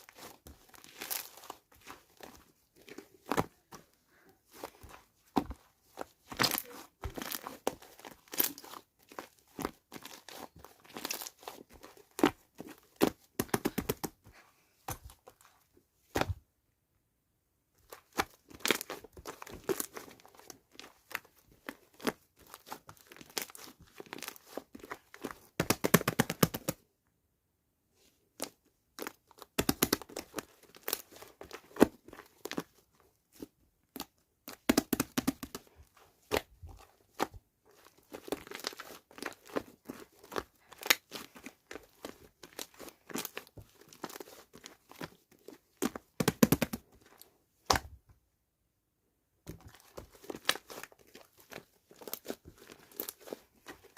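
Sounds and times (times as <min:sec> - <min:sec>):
crinkling and crunching handling: 0:00.0 - 0:16.4, 0:17.8 - 0:26.8, 0:28.0 - 0:48.1, 0:49.4 - 0:53.9.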